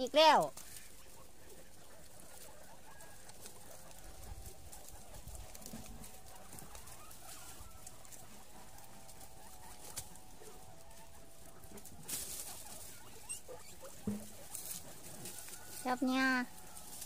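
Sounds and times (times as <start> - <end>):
guinea pig wavering call: 0.0 - 17.0.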